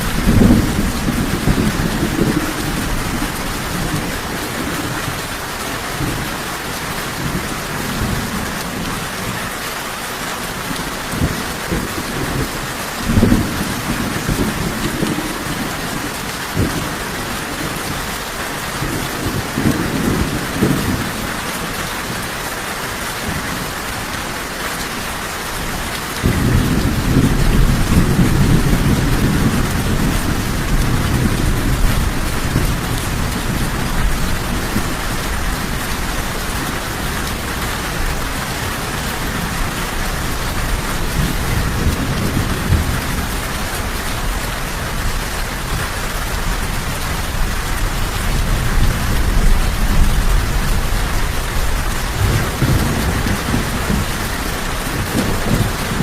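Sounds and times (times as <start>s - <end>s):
thunder rumbling: 0.0s - 9.4s, 10.6s - 22.3s, 25.0s - 56.0s
heavy rain: 0.0s - 56.0s.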